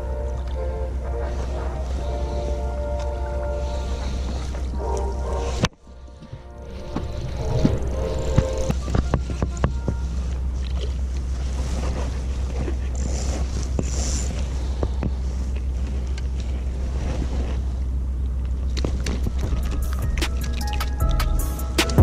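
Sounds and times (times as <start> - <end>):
wind rumbling on microphone: 0.0 - 21.2.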